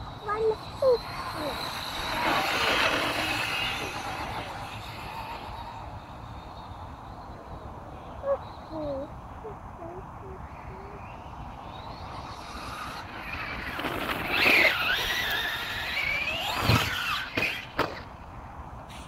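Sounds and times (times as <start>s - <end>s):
toy motorbike motor whining: 0.0s - 18.2s.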